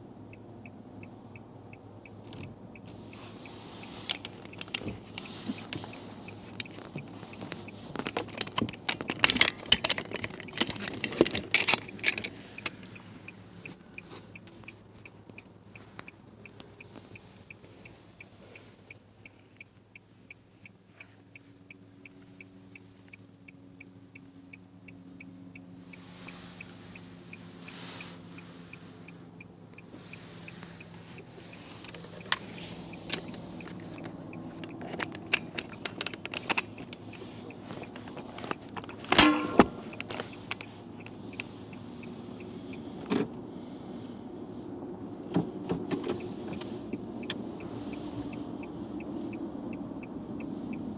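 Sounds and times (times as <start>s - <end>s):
low multi-tone hum: 0.0s - 45.2s
faint steady ticking: 0.0s - 50.9s
handling clicks and rustling in car: 2.1s - 20.0s, 25.6s - 43.4s, 44.9s - 50.9s.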